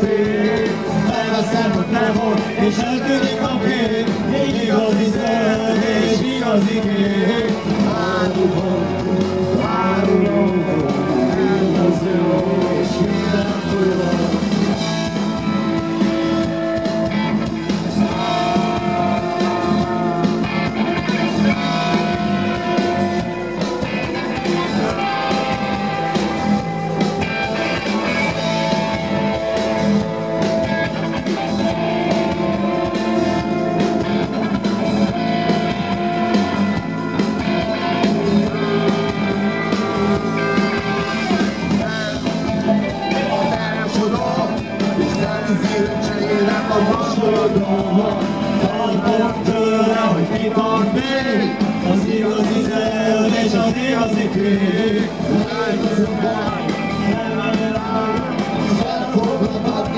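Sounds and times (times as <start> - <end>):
drum kit: 0.0 - 59.9
electric bass: 0.0 - 59.9
electric guitars with held notes: 0.0 - 59.9.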